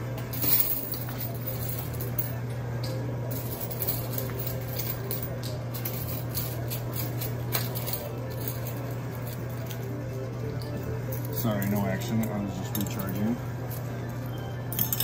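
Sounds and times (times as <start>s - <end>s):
coin pusher machine humming: 0.0s - 15.0s
coins clinking: 0.2s - 15.0s.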